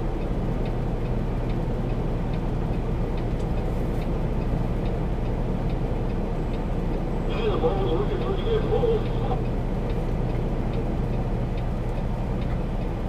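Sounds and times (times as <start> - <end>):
diesel engine idling: 0.0 - 13.0
faint light ticks: 0.2 - 7.1, 9.0 - 13.0.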